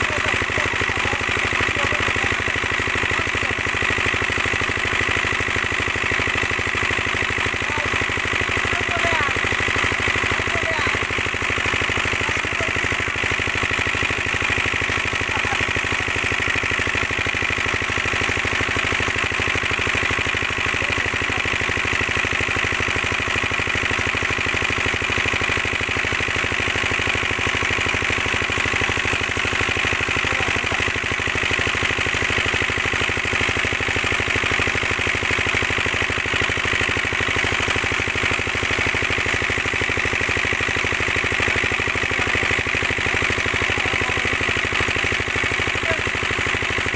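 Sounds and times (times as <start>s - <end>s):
diesel pump engine running: 0.0s - 46.9s
water gushing into a tank: 0.0s - 46.9s.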